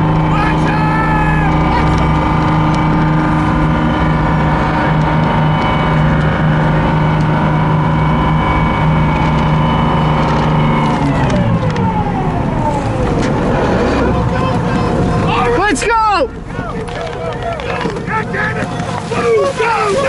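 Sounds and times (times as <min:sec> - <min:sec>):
landing craft engine running: 0:00.0 - 0:20.0.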